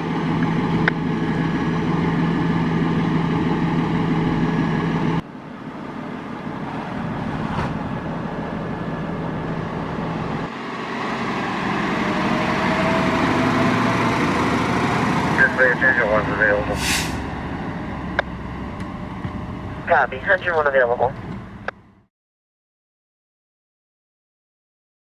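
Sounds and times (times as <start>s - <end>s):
vehicle engine running: 0.0s - 22.1s.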